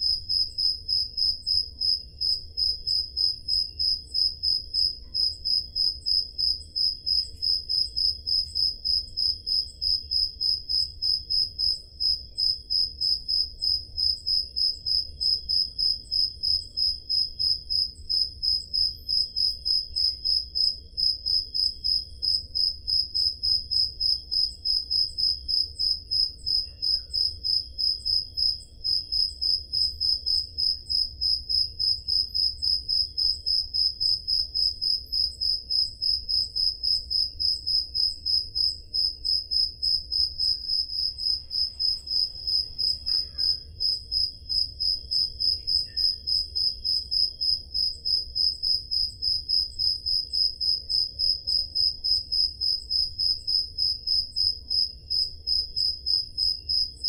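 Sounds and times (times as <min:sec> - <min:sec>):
cricket chirping: 0:00.0 - 0:57.0
faint crickets chirping: 0:00.0 - 0:57.0.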